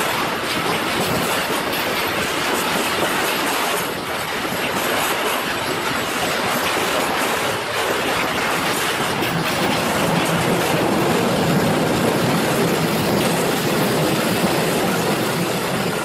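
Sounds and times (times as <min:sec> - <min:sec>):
electric locomotive passing: 0:00.0 - 0:16.0
freight wagons rolling on rails: 0:00.0 - 0:16.0.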